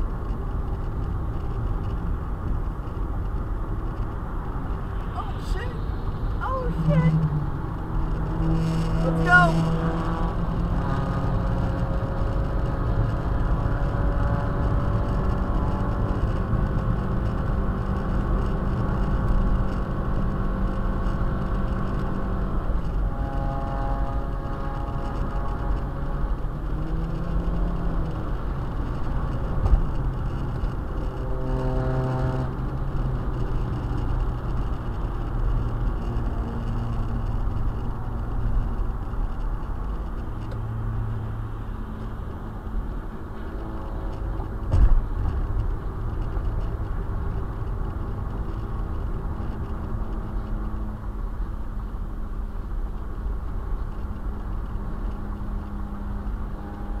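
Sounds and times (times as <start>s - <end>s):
car engine drone: 0.0s - 57.0s.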